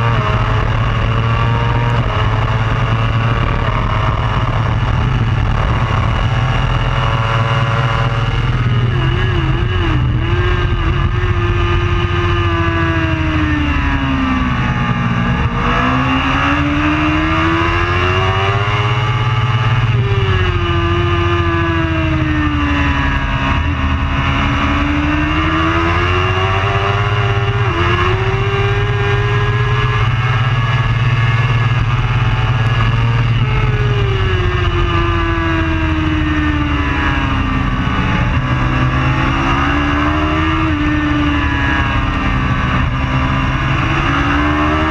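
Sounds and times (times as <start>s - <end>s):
racing superbike engine: 0.0s - 44.9s.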